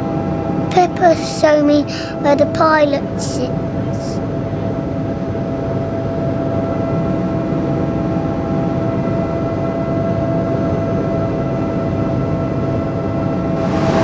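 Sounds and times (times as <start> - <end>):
helicopter drone from inside cabin: 0.0 - 14.0.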